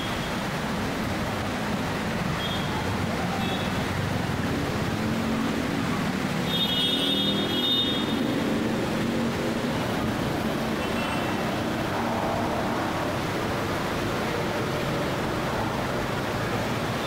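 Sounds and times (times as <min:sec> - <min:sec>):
car engines running: 0:00.0 - 0:17.0
rain: 0:00.0 - 0:17.0
water washing: 0:00.0 - 0:17.0.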